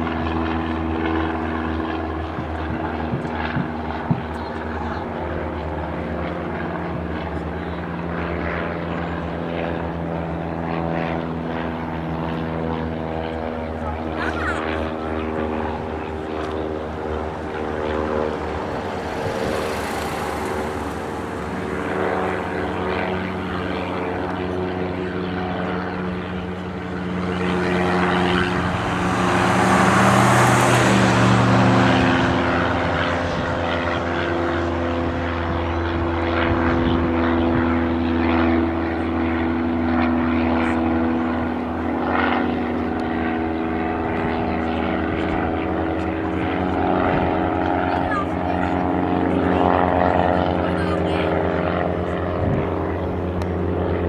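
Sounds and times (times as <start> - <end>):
aircraft passing close: 0.0 - 54.0
propeller airplane engines: 0.0 - 54.0.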